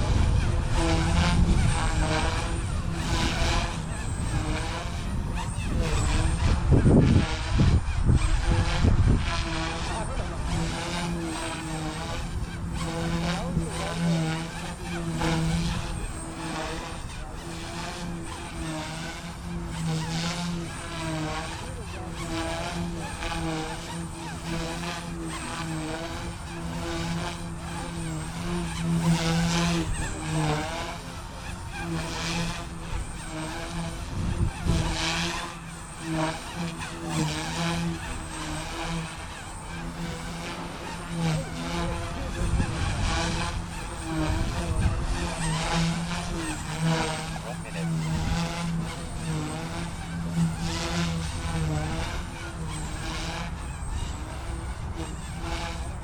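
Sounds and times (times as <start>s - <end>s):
rc helicopter motor and rotor hum: 0.0s - 56.0s
wind on microphone: 0.0s - 56.0s.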